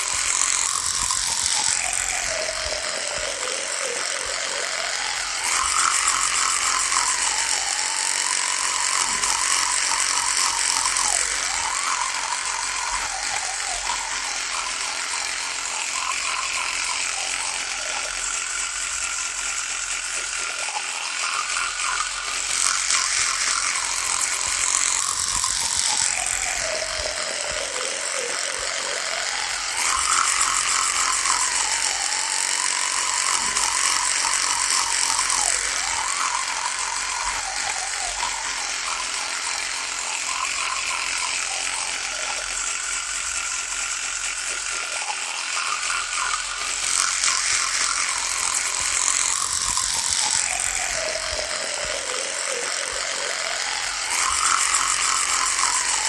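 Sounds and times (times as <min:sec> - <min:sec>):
electric toothbrush buzzing: 0:00.0 - 0:56.0.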